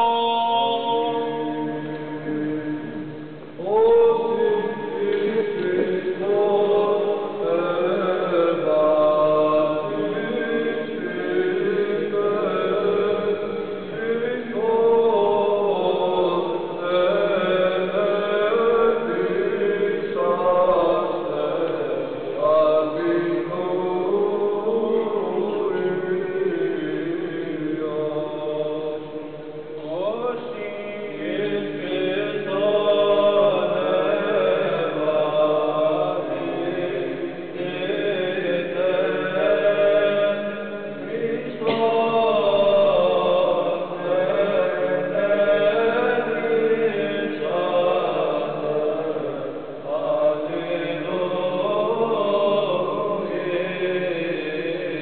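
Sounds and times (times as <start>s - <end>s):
voices chanting slowly: 0.0s - 55.0s.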